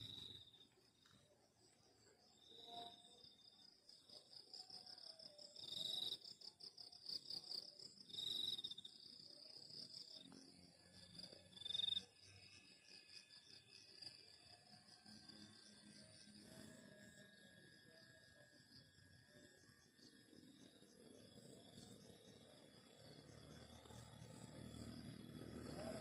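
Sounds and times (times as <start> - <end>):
crickets trilling: 2.2 - 26.0.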